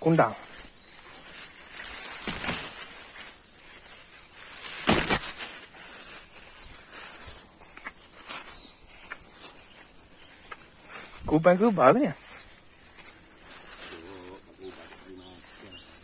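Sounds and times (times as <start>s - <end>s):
footsteps rustling through grass: 0.0s - 16.0s
insects droning: 0.0s - 16.0s.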